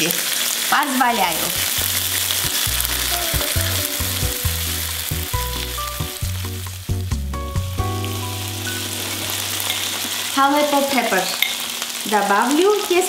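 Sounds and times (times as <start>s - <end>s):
sauce sizzling in a skillet: 0.0s - 13.0s.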